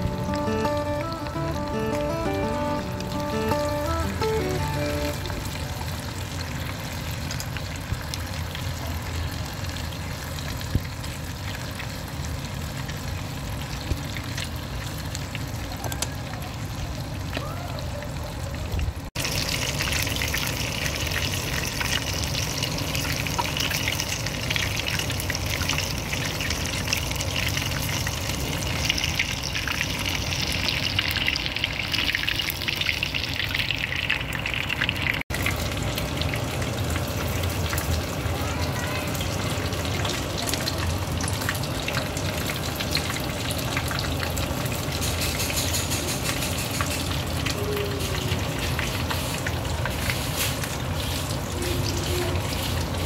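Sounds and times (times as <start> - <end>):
deep-frying bubbling sizzle: 0.0 - 53.0.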